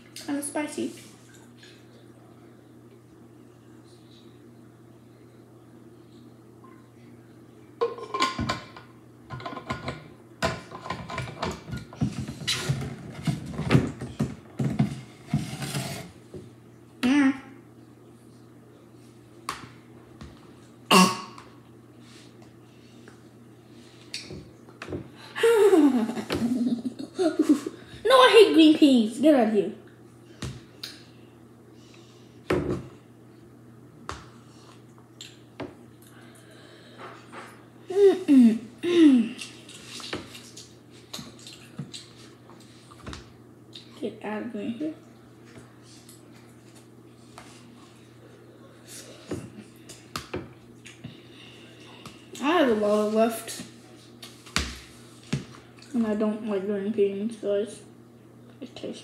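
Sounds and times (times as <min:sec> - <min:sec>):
faint hum: 0:00.0 - 0:59.0.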